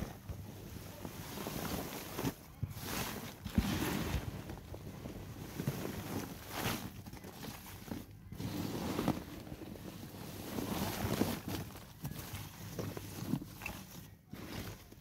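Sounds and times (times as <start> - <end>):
hands stirring paper in compost: 0.0 - 15.0.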